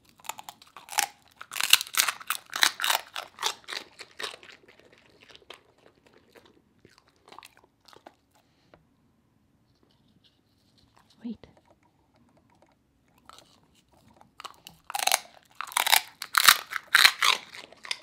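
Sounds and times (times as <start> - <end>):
dog crunching a treat: 0.0 - 8.7, 10.7 - 18.0.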